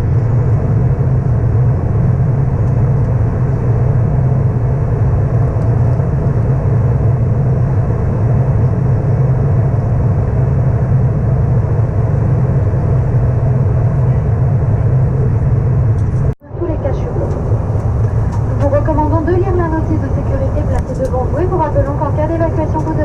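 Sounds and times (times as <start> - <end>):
airplane cabin drone: 0.0 - 23.0.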